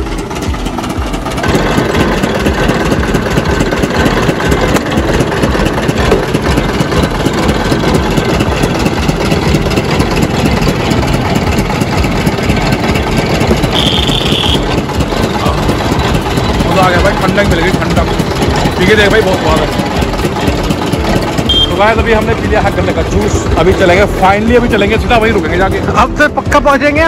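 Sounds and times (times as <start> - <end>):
sugarcane juice crusher running: 0.0 - 27.0.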